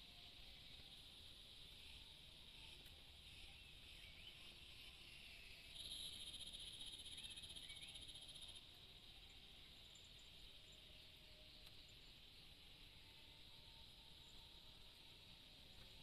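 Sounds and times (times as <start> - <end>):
insect hiss: 0.0 - 16.0.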